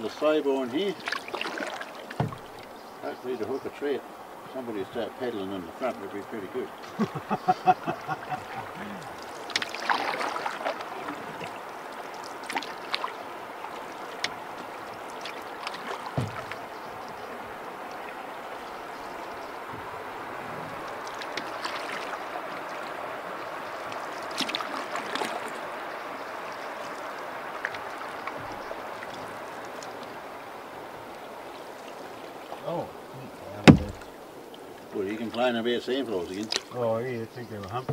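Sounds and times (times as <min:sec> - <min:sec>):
paddle dipping through water: 0:00.0 - 0:36.8
water splashes and drips: 0:00.0 - 0:37.9
water washing along hull: 0:00.0 - 0:37.9.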